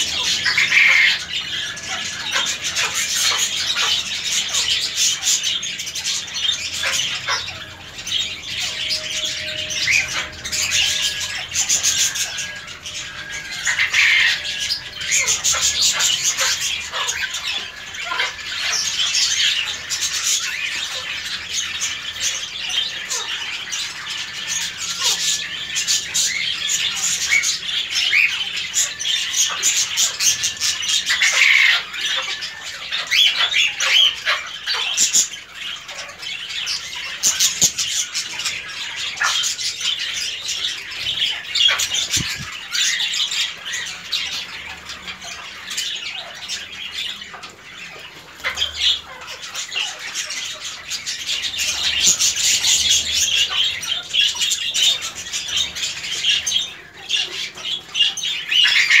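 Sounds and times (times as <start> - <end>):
cockatiels squawking and chirping: 0.0 - 59.0.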